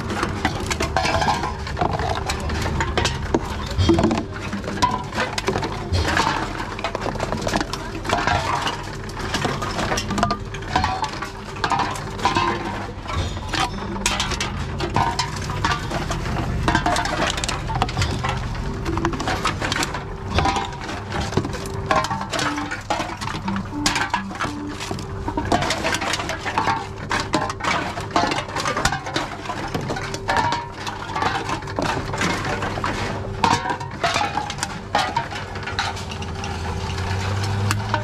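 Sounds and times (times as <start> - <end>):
cans and bottles clattering: 0.0 - 38.0
vending machine humming: 0.0 - 38.0.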